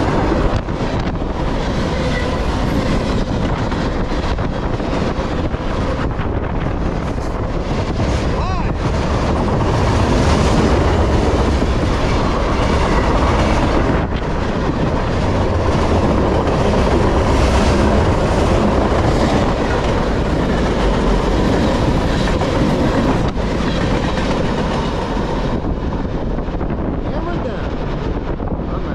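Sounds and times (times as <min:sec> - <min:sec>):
freight train rumble: 0:00.0 - 0:28.9.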